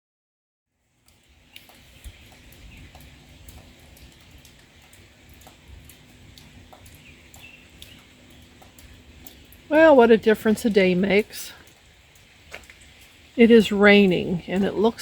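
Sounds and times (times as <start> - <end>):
large raindrops tapping: 0.8 - 15.0
rain hissing: 0.8 - 15.0.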